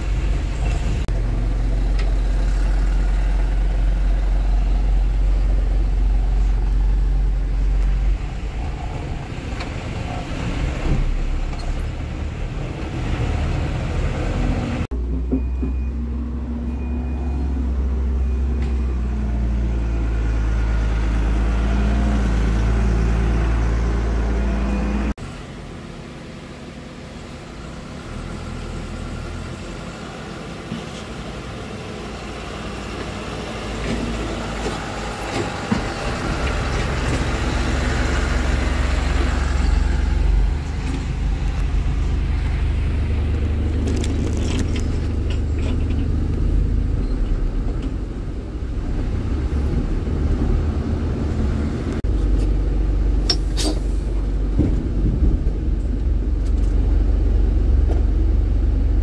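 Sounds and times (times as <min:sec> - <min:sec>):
truck engine low drone: 0:00.0 - 0:59.0.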